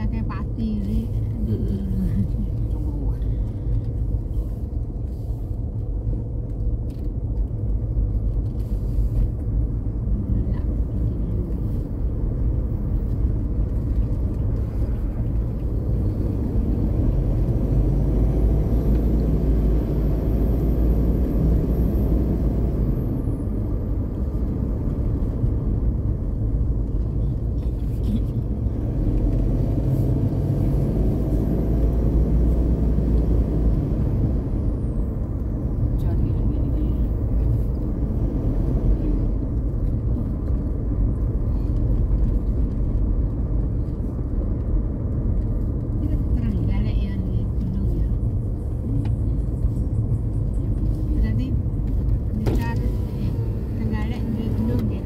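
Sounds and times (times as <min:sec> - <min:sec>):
car engine rumble: 0:00.0 - 0:55.0
tyres on road: 0:00.0 - 0:55.0.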